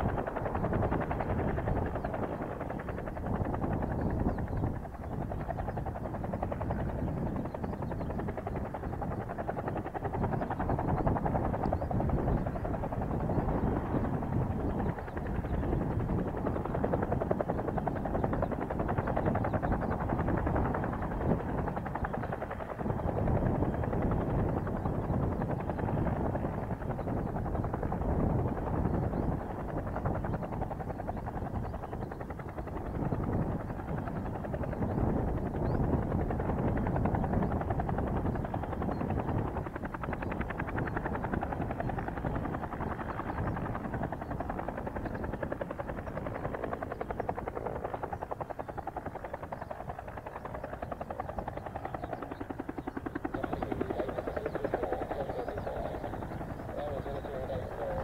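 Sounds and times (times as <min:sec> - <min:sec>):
helicopter rotor beating: 0:00.0 - 0:58.0.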